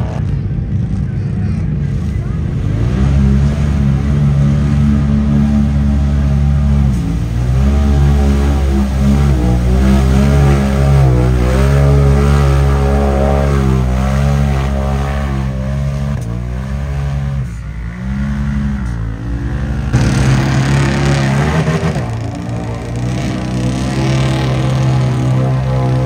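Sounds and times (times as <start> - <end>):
truck engine revving hard: 1.9 - 26.0.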